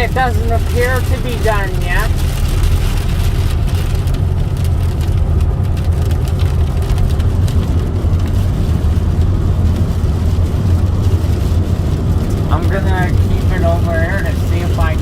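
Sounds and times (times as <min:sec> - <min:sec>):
car engine and road noise: 0:00.0 - 0:15.0
rain ticking on car: 0:00.0 - 0:15.0.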